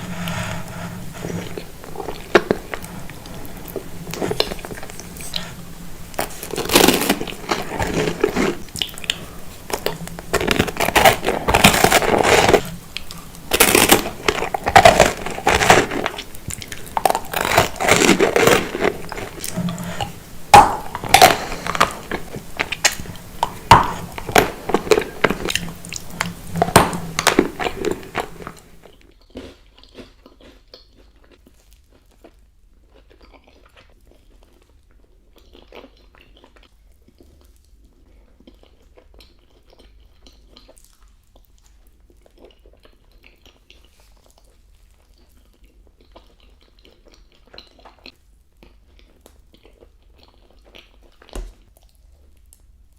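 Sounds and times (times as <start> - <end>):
biting crunching and wet chewing: 0.0 - 52.0.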